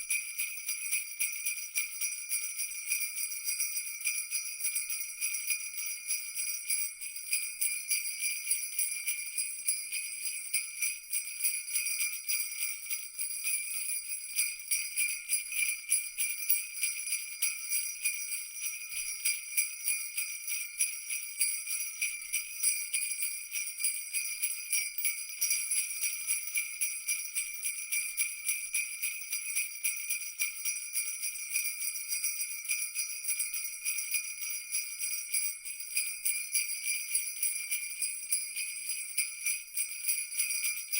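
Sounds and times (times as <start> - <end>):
jingle bells shaken: 0.0 - 40.9.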